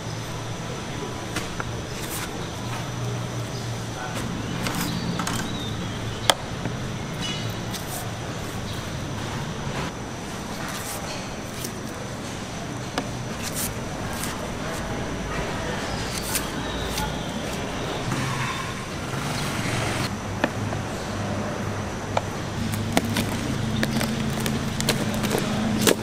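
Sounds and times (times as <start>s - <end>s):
background hum: 0.0s - 26.0s
murmur of distant voices: 0.0s - 26.0s.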